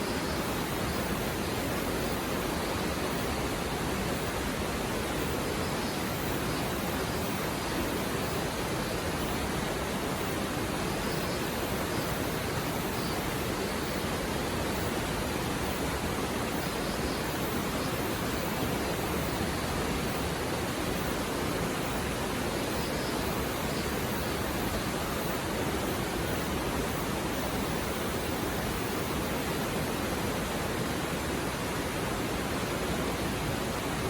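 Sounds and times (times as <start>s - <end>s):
river running over rocks: 0.0s - 34.0s.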